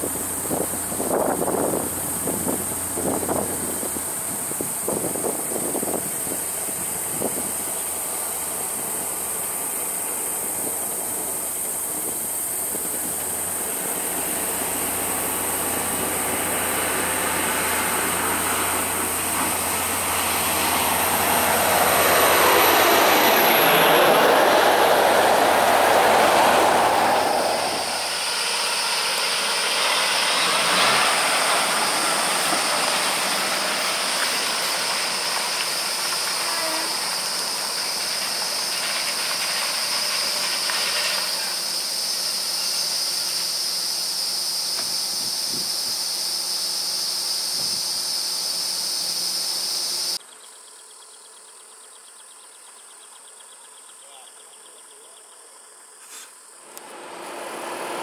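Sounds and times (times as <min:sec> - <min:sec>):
truck diesel engine: 0:00.0 - 0:45.6, 0:56.6 - 0:58.0
truck moving off: 0:00.0 - 0:50.2, 0:56.6 - 0:58.0
wheels throwing water spray: 0:00.0 - 0:50.2, 0:56.1 - 0:58.0
insects buzzing: 0:00.0 - 0:58.0.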